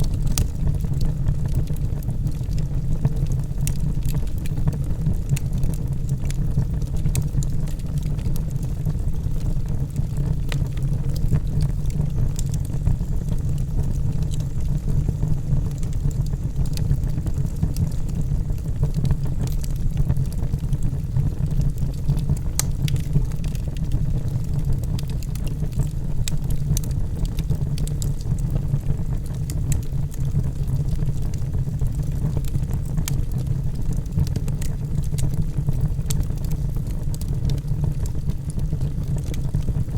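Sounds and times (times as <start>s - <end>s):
fire crackling and popping: 0.0s - 39.9s
logs burning in fireplace: 0.0s - 39.9s.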